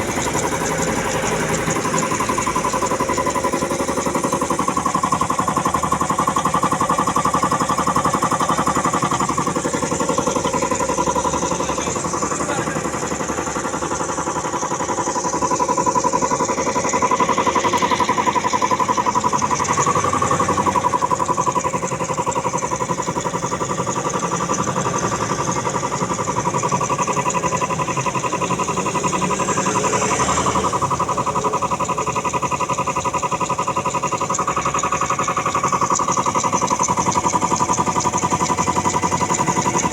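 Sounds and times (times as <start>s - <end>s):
air compressor chugging: 0.0s - 39.9s.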